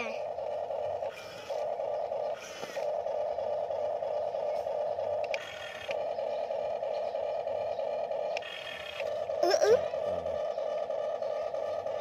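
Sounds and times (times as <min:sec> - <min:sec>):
toy electric motors whining: 0:00.0 - 0:12.0.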